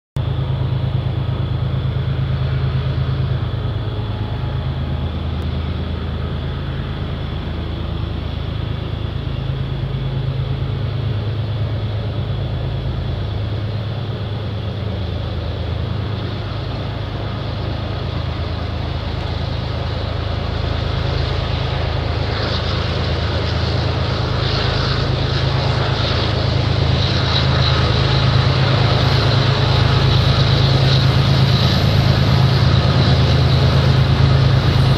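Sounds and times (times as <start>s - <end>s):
diesel locomotive engine drone: 0.2s - 34.9s.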